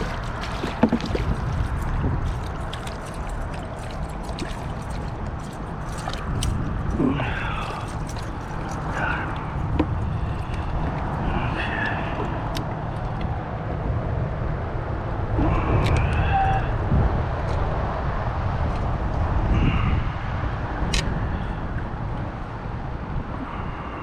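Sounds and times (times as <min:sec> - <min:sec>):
water noise: 0:00.0 - 0:24.0
wind: 0:00.0 - 0:24.0.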